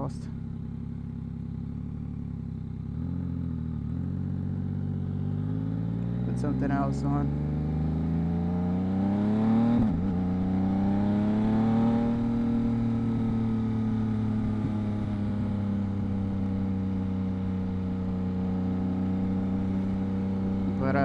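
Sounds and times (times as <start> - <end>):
motorcycle engine riding: 0.0 - 21.0.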